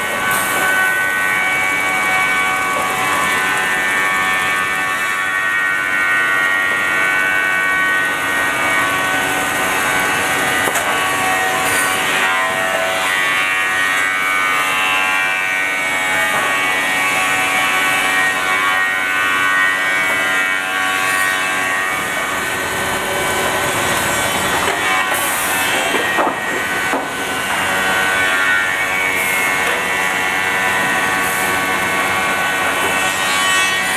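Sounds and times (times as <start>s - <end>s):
sawing machinery whine: 0.0s - 33.9s.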